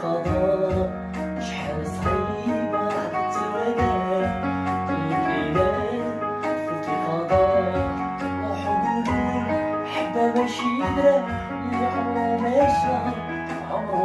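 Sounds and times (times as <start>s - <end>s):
instrumental melody over bass: 0.0s - 14.0s.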